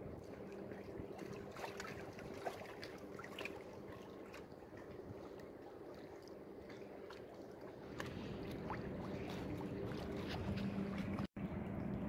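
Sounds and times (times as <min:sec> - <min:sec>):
water lapping against concrete: 0:00.0 - 0:12.0.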